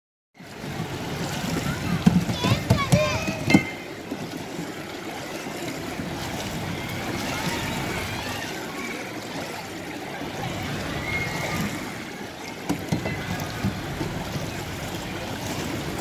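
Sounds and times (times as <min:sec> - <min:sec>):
water sloshing and churning: 0:00.4 - 0:16.0.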